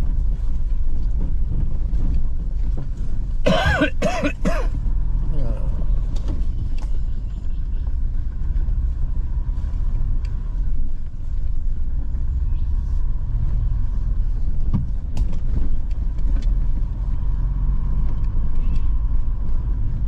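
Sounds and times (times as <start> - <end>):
vehicle driving on dirt track: 0.0 - 20.0.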